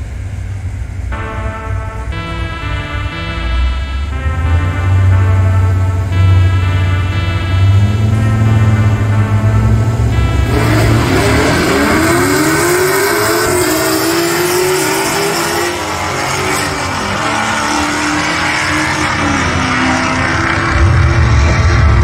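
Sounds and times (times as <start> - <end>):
car engines accelerating hard: 4.4 - 22.0.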